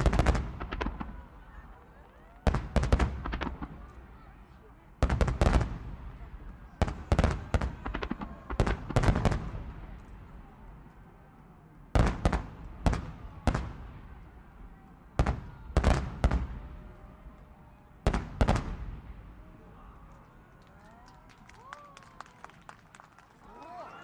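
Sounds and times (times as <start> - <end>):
fireworks bangs with echo: 0.0 - 19.7.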